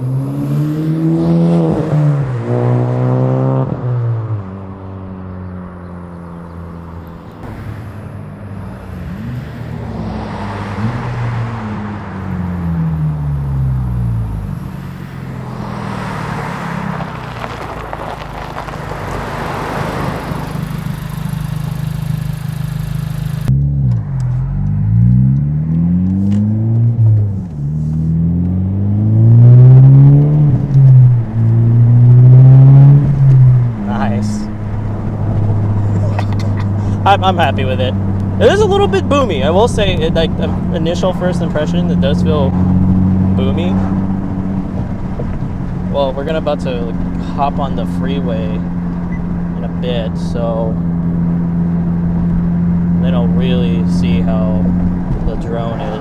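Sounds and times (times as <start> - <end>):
car accelerating past: 0.0 - 56.0.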